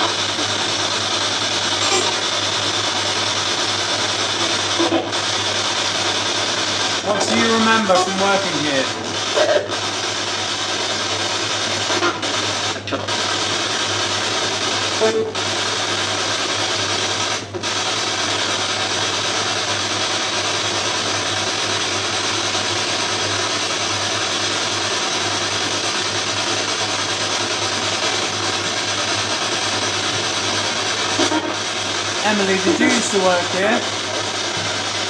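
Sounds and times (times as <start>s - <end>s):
radio static hiss: 0.0s - 23.1s, 24.7s - 35.0s.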